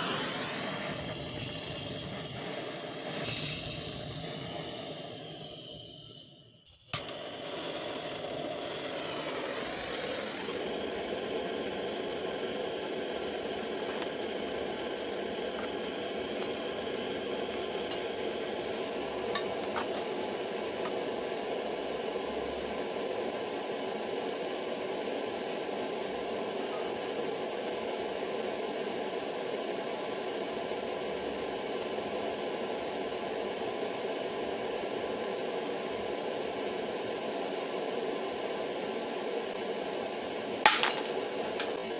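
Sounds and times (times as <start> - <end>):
blowtorch flame hissing: 0.0 - 41.9.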